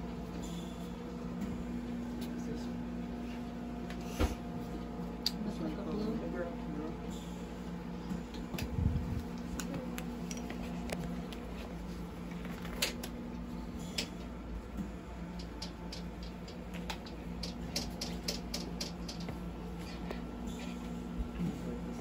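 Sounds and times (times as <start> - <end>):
equipment low hum: 0.0 - 22.0.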